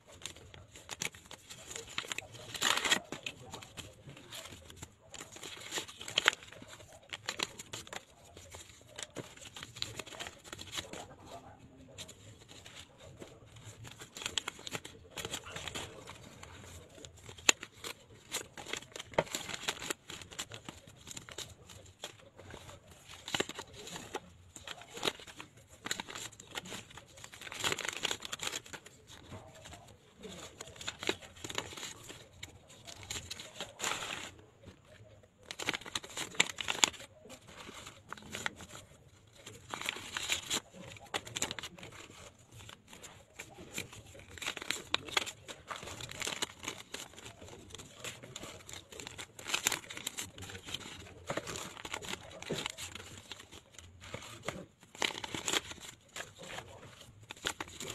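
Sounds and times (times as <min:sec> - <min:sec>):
banknotes rustling: 0:00.0 - 0:57.9
envelopes tearing and crumpling: 0:00.0 - 0:57.9.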